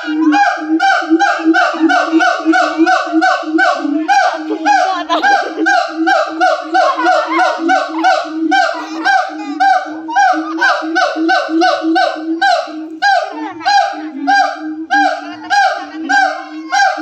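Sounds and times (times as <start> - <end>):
monkeys honking calls: 0.0 - 17.0.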